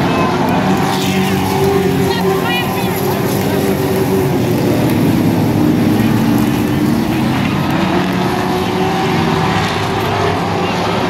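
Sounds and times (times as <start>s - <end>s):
racing engines droning: 0.0s - 11.0s.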